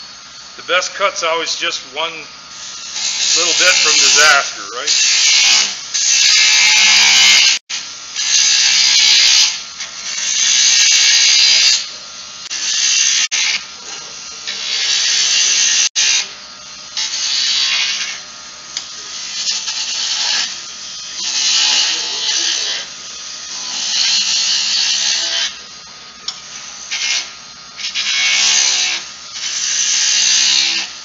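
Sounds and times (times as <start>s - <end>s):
lathe humming: 0.0s - 7.6s, 8.5s - 31.0s
chisel hissing cuts on wood: 0.6s - 31.0s.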